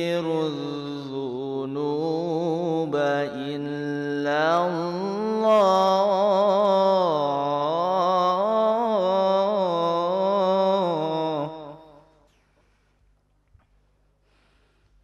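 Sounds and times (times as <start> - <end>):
person chanting recitation: 0.0 - 12.0.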